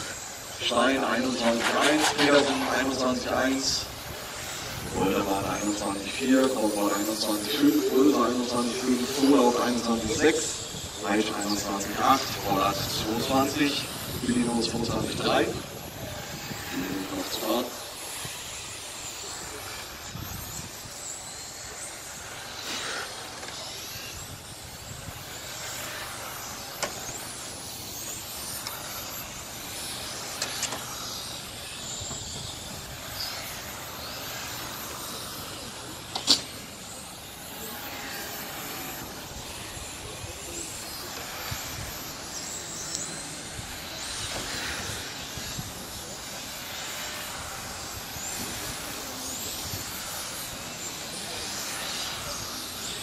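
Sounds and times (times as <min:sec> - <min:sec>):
rc car motor whines: 0:00.0 - 0:53.0
steady hiss: 0:00.0 - 0:53.0.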